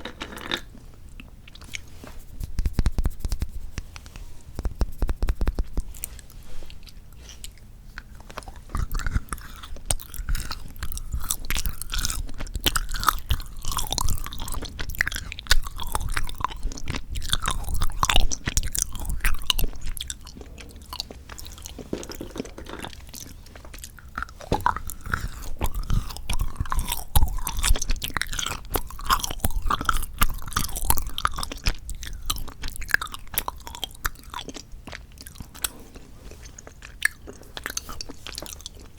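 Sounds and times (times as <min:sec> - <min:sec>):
chocolate being chewed: 0:00.0 - 0:38.9.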